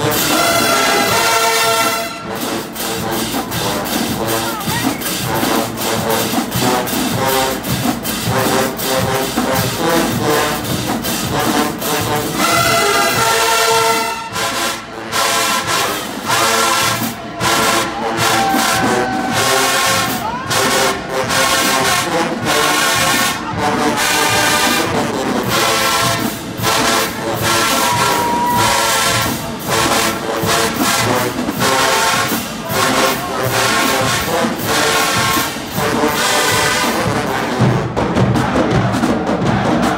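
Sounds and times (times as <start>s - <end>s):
brass horns playing chords: 0.0s - 39.9s
drum line steady beat: 0.0s - 39.9s.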